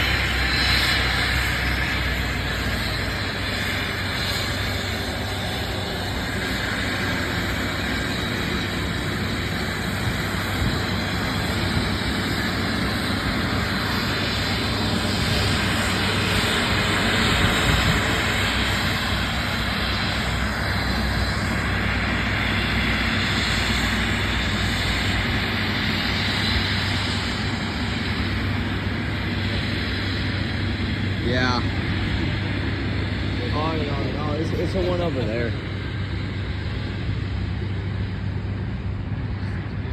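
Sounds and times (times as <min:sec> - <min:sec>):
steady engine noise: 0:00.0 - 0:39.9.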